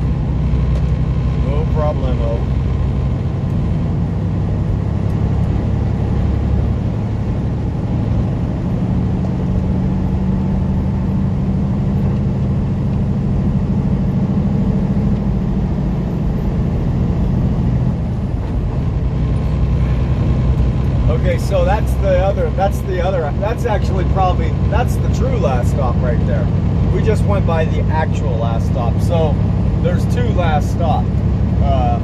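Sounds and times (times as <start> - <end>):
road noise: 0.0 - 32.0
truck diesel engine drone: 0.0 - 32.0.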